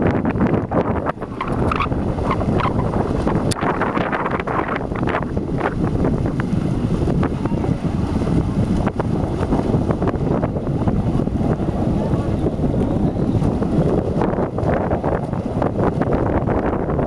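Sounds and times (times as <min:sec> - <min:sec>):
wind buffeting microphone: 0:00.0 - 0:17.0
splashes wading through water: 0:01.0 - 0:16.4.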